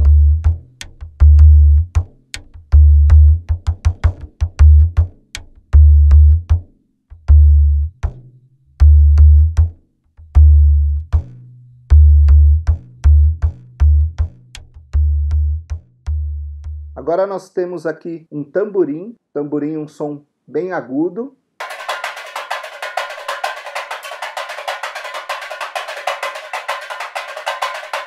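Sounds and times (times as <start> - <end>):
bass drum rhythm: 0.0 - 8.2, 8.8 - 17.0, 21.6 - 28.0.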